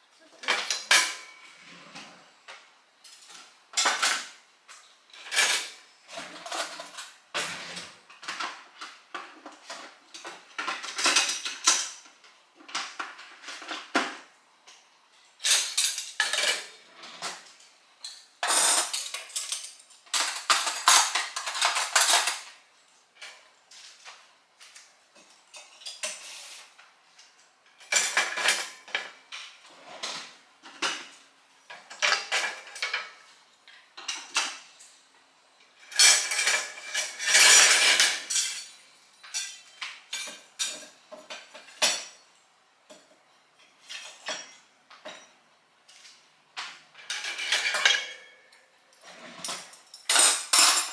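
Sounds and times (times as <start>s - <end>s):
kitchenware clattering: 0.3s - 14.3s, 15.3s - 34.9s, 35.7s - 45.4s, 46.6s - 50.9s.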